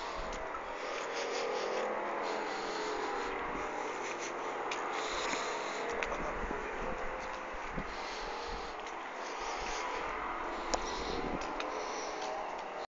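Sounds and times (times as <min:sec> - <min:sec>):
distant drone with hiss and hum: 0:00.0 - 0:12.9.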